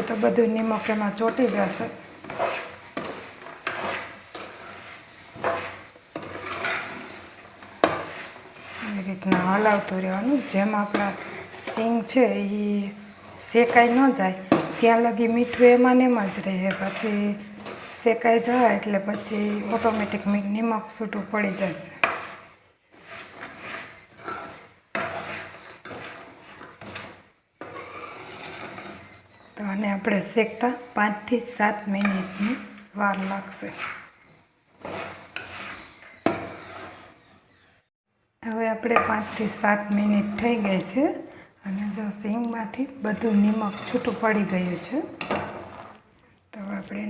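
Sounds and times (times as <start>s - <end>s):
metal spoon scraping in pot: 0.0s - 37.7s, 38.8s - 46.2s.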